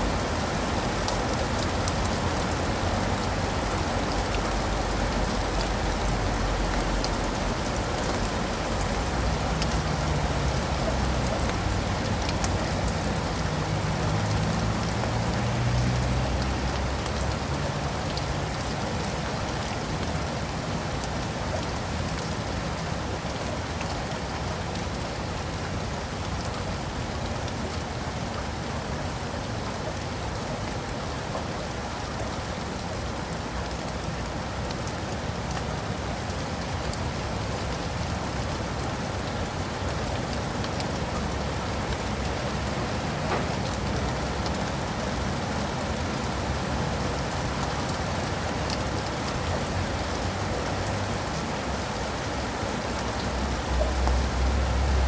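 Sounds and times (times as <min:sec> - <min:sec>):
rain on leaves and pavement: 0:00.0 - 0:55.0.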